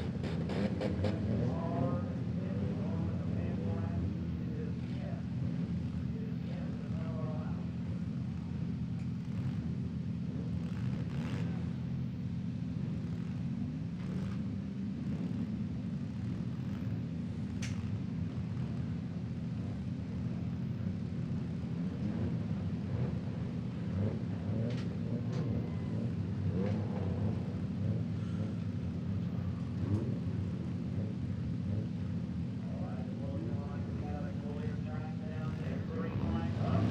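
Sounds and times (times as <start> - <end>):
car engines rumbling: 0.0 - 36.9
engine revving: 0.0 - 36.9.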